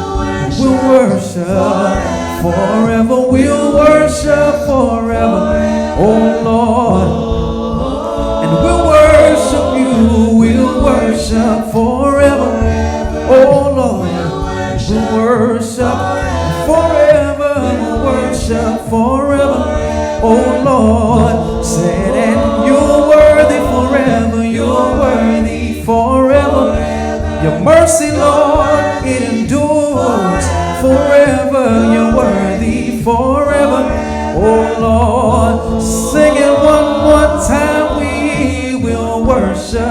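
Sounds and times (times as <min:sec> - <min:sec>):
instrumental accompaniment with bass: 0:00.0 - 0:39.9
voices singing together: 0:00.0 - 0:39.9.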